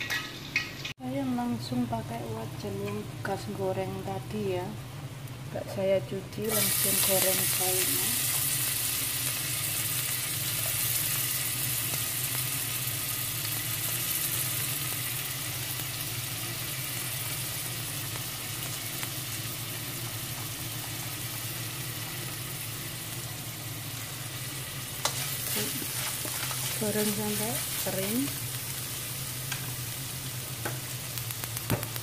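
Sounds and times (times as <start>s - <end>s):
ginger sizzling in hot oil: 0.0s - 1.0s, 6.4s - 32.0s.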